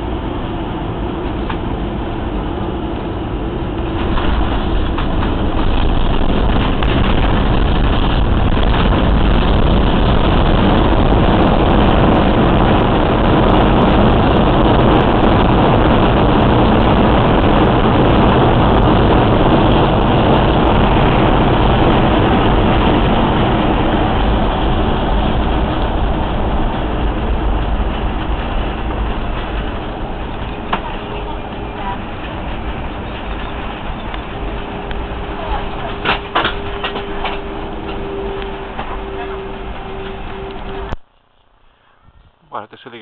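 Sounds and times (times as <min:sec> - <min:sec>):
jet engines and wheels rumbling: 0:00.0 - 0:43.0.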